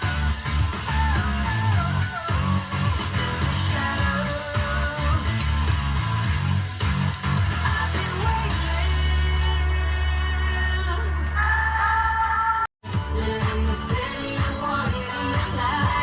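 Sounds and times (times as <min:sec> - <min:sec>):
steady bass line: 0:00.0 - 0:16.0.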